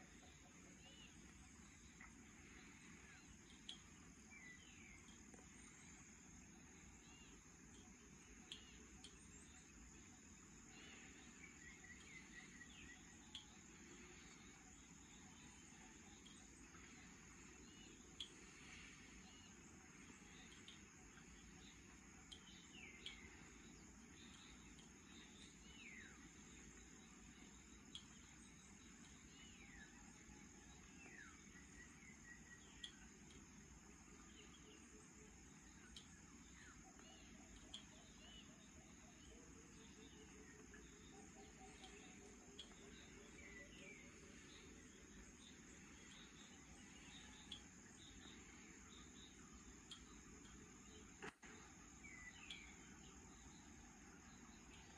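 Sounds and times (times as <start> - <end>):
high insect drone: 0.0 - 54.9
low background hiss: 0.0 - 54.9
light ticks: 0.2 - 6.0, 6.8 - 34.8, 35.4 - 38.5, 39.2 - 52.8.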